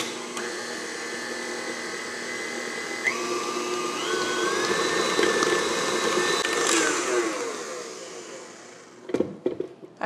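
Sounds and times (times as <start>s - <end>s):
stand mixer motor whining: 0.0s - 9.2s.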